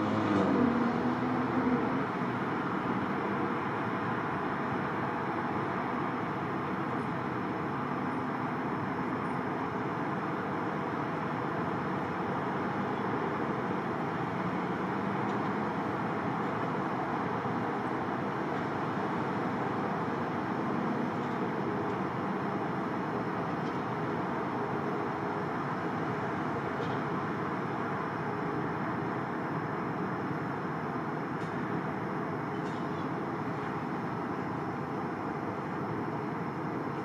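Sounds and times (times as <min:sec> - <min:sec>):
jet engines running at low power: 0:00.0 - 0:37.0.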